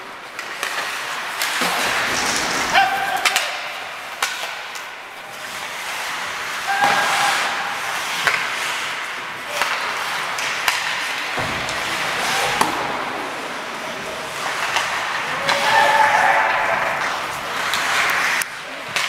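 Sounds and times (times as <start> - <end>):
stick hitting puck: 0.3 - 13.2, 14.3 - 19.0
skates hissing on ice: 0.6 - 18.9.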